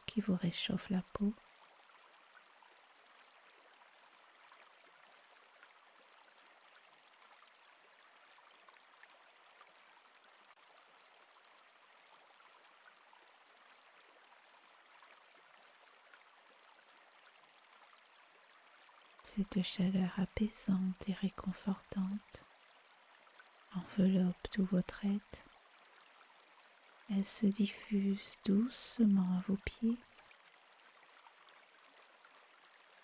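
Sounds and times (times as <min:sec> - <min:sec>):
running water hissing and trickling: 0:00.0 - 0:33.0.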